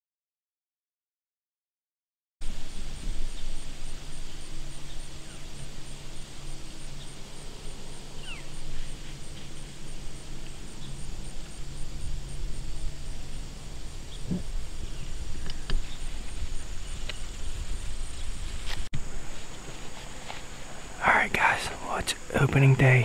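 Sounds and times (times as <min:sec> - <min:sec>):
low rumble: 0:02.4 - 0:21.5
faint low hum: 0:02.4 - 0:23.0.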